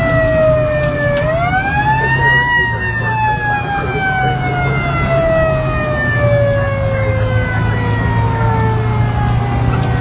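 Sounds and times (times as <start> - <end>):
fire engine siren wailing: 0.0 - 10.0
truck engine drone: 0.0 - 10.0.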